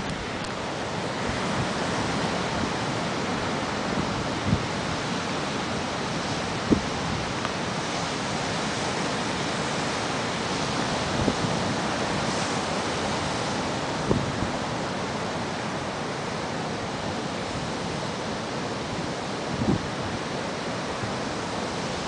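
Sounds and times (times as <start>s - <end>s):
ocean surf washing: 0.0s - 22.0s.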